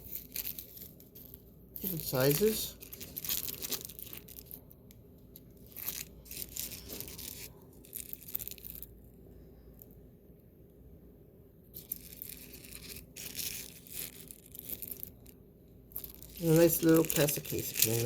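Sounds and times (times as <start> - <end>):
plastic packaging crinkling: 0.0 - 9.0, 11.8 - 18.0.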